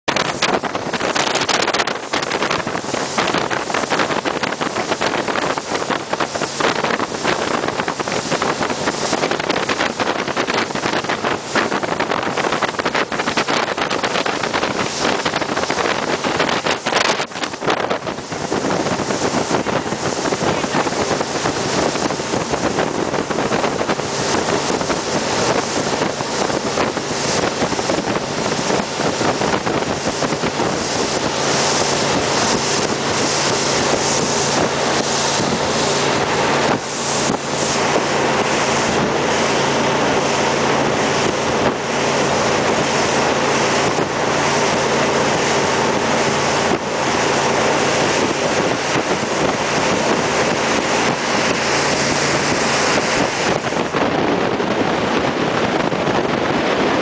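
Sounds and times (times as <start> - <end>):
jet boat engine and water rush: 0.0 - 57.0
wind buffeting microphone: 0.1 - 57.0.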